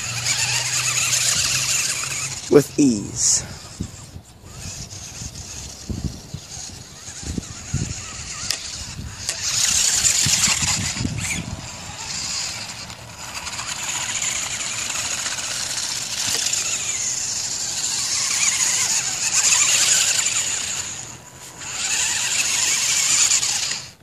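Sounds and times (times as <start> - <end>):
toy truck motor whining: 0.0 - 24.0.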